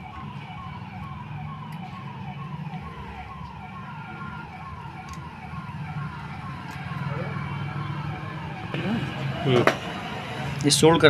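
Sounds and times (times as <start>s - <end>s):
electronic siren warble: 0.0s - 10.6s.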